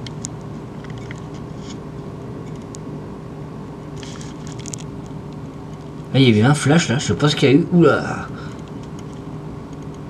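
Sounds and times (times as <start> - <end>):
fluorescent ballast humming: 0.0 - 10.0.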